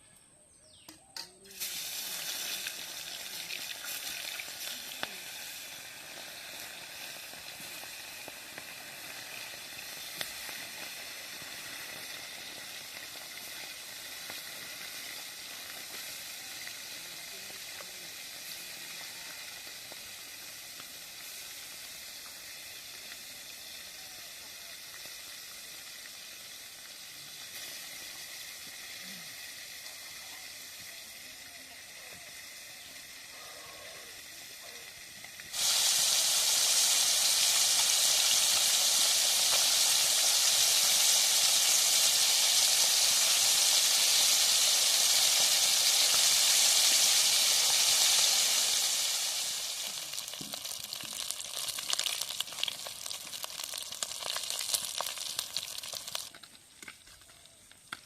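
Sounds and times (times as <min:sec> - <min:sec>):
spices sizzling in hot oil: 0:00.9 - 0:58.0.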